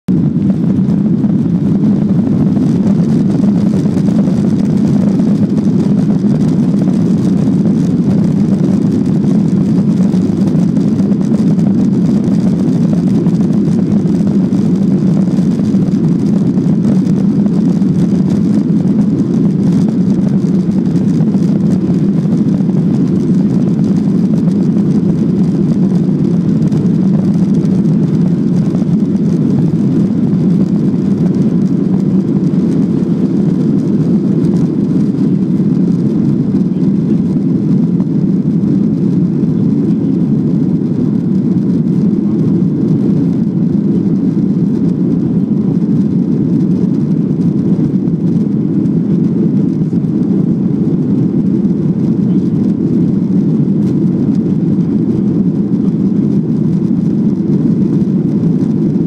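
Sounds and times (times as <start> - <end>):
airliner cabin engine drone: 0.1 - 59.0.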